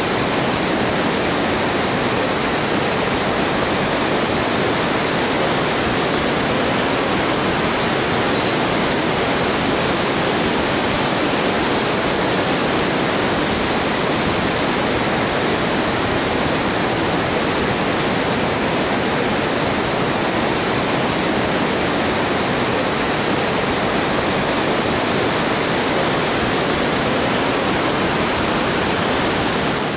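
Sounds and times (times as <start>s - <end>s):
whitewater rapids rushing: 0.0s - 29.9s.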